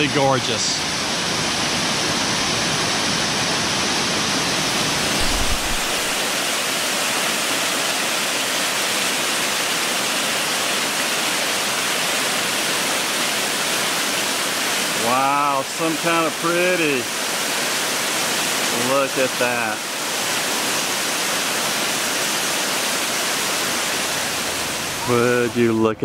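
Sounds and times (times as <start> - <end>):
waterfall roaring: 0.0 - 25.8.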